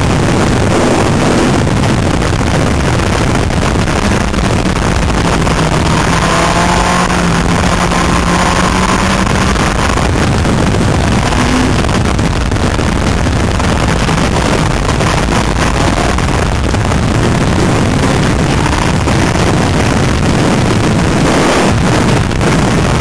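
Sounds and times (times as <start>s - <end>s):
motorcycle engine: 0.0s - 23.0s
wind rushing over microphone: 0.0s - 23.0s.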